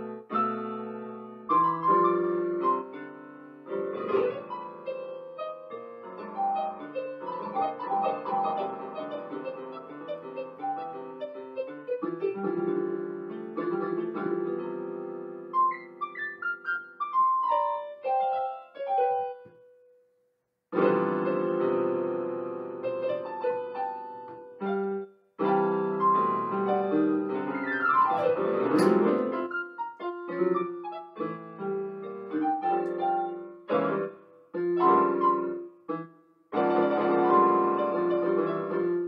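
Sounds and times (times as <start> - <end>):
electronic keyboard piano music: 0.0 - 19.7, 20.7 - 39.0.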